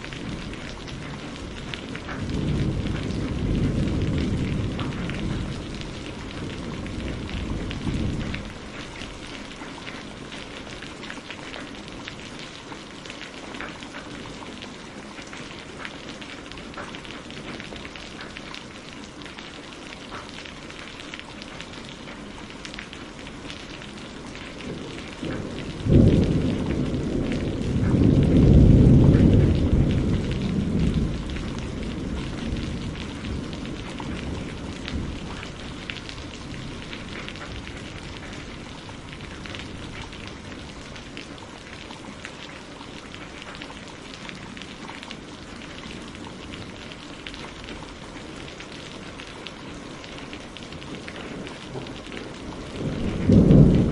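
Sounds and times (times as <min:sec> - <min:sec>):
thunder rumbling: 0:00.0 - 0:12.4, 0:21.5 - 0:53.9
rain pattering on greenhouse: 0:00.0 - 0:53.9.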